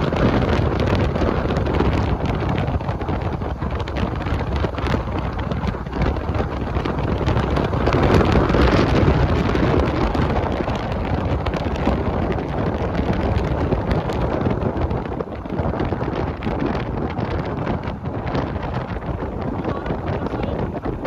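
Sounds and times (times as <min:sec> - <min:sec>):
road noise: 0:00.0 - 0:21.0
wind buffeting microphone: 0:00.0 - 0:21.0.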